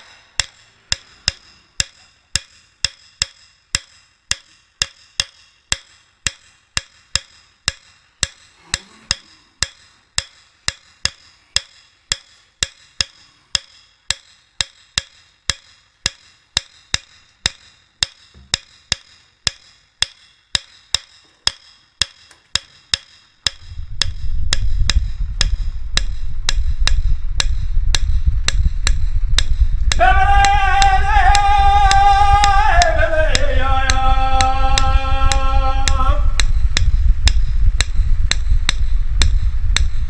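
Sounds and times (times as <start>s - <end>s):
sharp ringing ticks: 0.0s - 40.0s.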